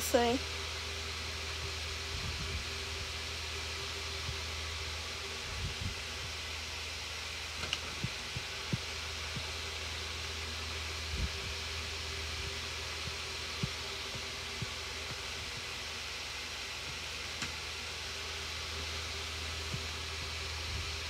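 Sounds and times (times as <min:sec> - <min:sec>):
microphone hiss and hum: 0:00.0 - 0:21.0.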